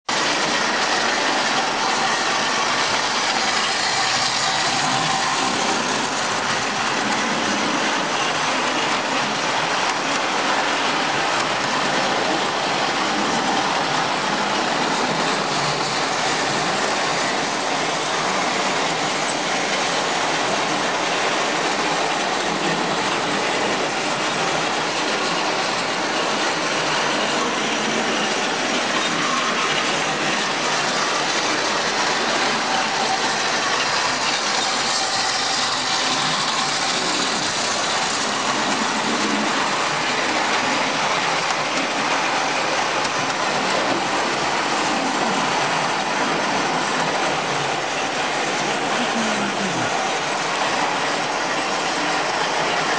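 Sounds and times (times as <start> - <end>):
model train wheels rolling on rails: 0.1 - 52.9.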